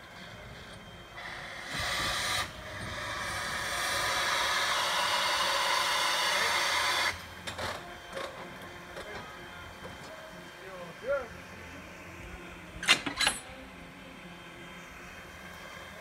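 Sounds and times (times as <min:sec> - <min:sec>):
steam locomotive hissing: 0:00.0 - 0:13.3, 0:14.5 - 0:16.0.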